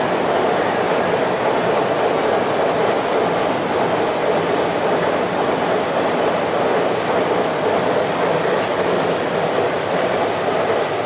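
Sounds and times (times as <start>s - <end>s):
train wheels rumbling on bridge: 0.0s - 11.0s.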